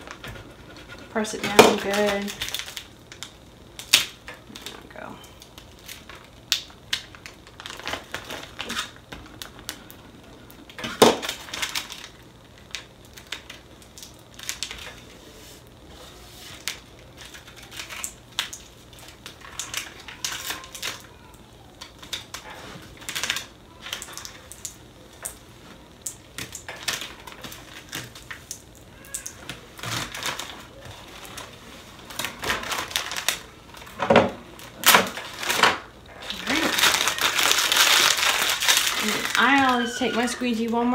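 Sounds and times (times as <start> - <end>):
transfer tape peeling crackles: 0.0 - 40.9.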